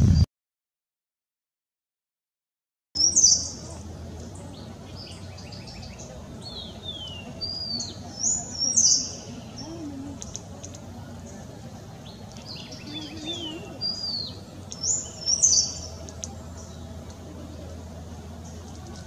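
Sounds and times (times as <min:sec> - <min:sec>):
birds chirping and whistling: 0:03.0 - 0:19.0
faint steady hum: 0:03.0 - 0:19.0.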